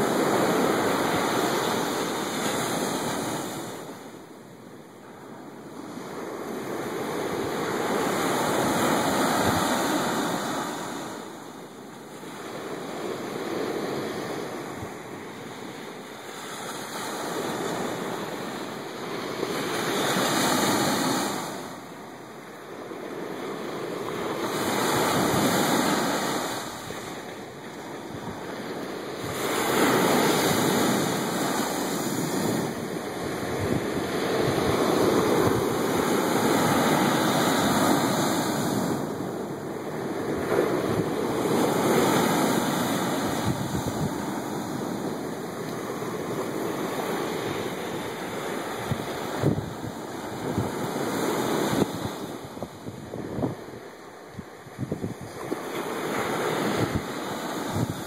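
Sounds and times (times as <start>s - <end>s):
ocean surf breaking on sand: 0.0s - 58.0s.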